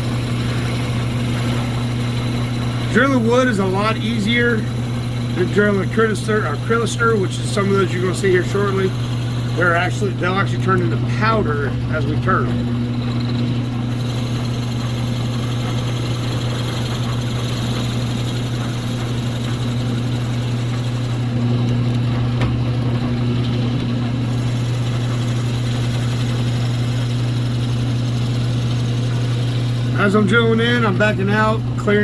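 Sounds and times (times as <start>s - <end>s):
drill bit boring into wood: 0.0s - 31.6s
drill press motor hum: 0.0s - 32.0s.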